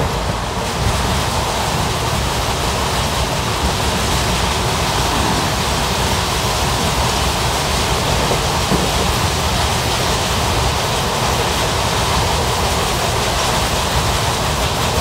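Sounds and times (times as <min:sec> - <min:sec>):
train coach rushing roar: 0:00.0 - 0:15.0.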